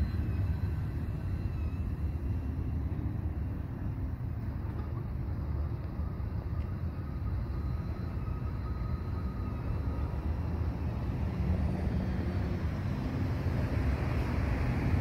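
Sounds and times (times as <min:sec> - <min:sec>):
faint thin whine: 0:00.0 - 0:14.2
distant train rumble: 0:00.0 - 0:15.0.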